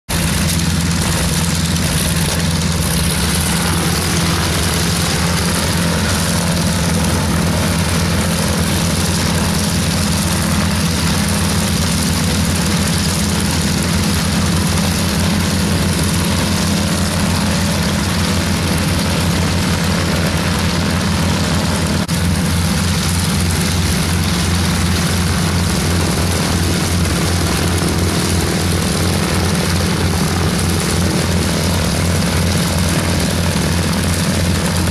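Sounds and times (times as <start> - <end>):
propeller engines rumbling: 0.1 - 34.9
small plane engine: 0.1 - 34.9.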